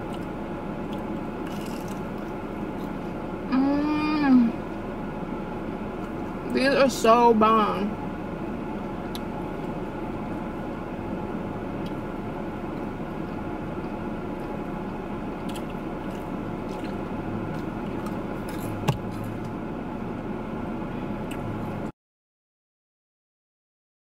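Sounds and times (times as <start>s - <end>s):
car engine humming: 0.0s - 21.9s.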